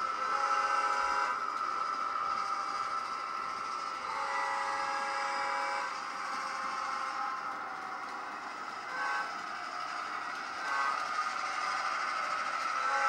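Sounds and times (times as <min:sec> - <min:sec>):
model locomotive horn blasts: 0:00.0 - 0:07.5, 0:08.1 - 0:13.0
steady running drone: 0:00.0 - 0:13.0.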